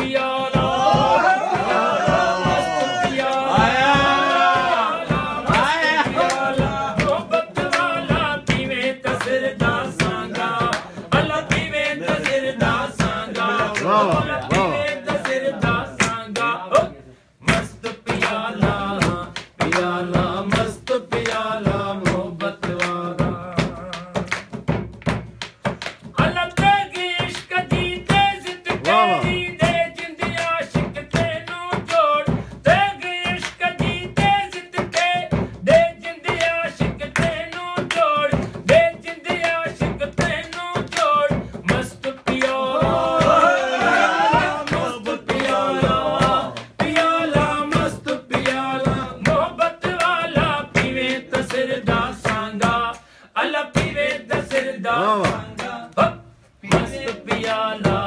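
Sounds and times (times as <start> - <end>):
man singing unaccompanied: 0.0 - 24.6, 26.1 - 58.0.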